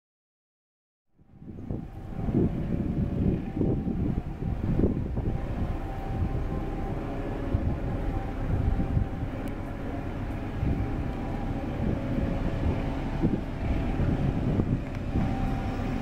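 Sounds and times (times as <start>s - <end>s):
diesel locomotive rumble: 1.2s - 16.0s
faint steady tones: 1.2s - 16.0s.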